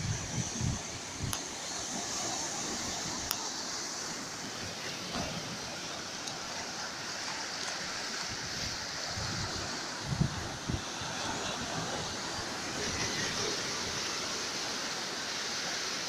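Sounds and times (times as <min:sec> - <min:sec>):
sea surf washing on shore: 0:00.0 - 0:16.0.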